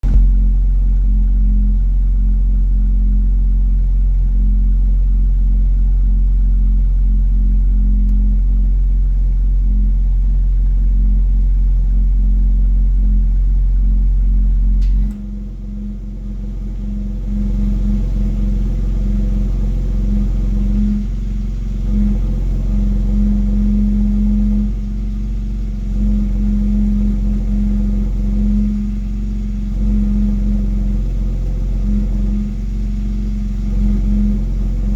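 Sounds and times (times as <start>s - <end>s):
exhaust droning hum: 0.0s - 34.9s.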